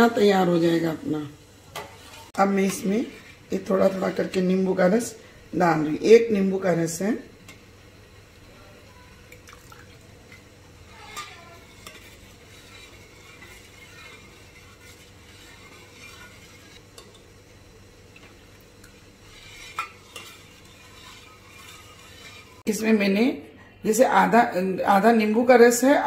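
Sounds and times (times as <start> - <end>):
spoon stirring milk in steel bowl: 1.7 - 22.8.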